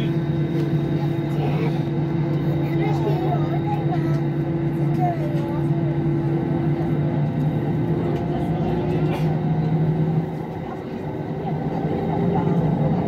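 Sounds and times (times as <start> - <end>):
jet cabin hum and engine drone: 0.0 - 13.0.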